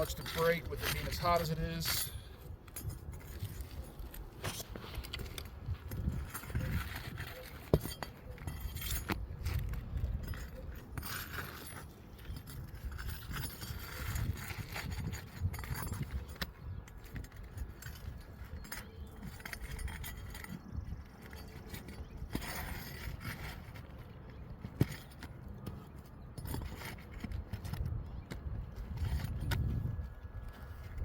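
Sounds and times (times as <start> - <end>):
shingles scraping and crinkling: 0.0 - 31.0.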